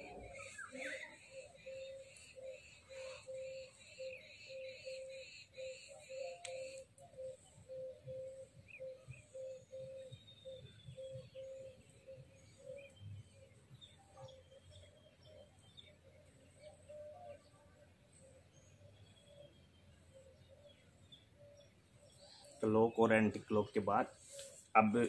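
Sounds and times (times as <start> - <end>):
bird calling low note: 0.0 - 23.6
birds chattering: 0.0 - 25.0.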